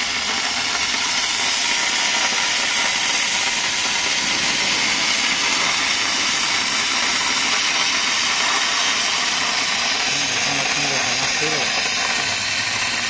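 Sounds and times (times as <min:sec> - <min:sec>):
laser cutter hissing: 0:00.0 - 0:13.0.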